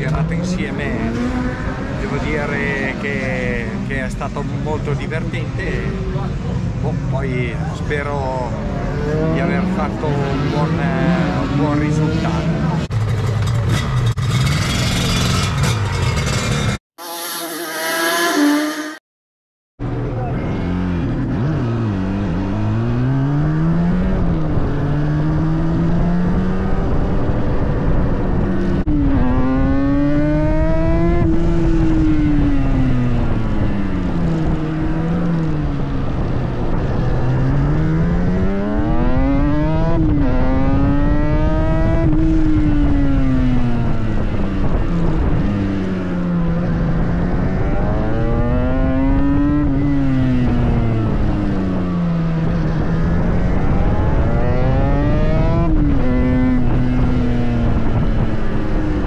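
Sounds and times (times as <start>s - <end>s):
motorcycle engine revving: 0.0s - 3.6s, 8.5s - 19.0s, 20.2s - 59.0s
wind and road noise: 0.0s - 16.8s, 19.8s - 59.0s.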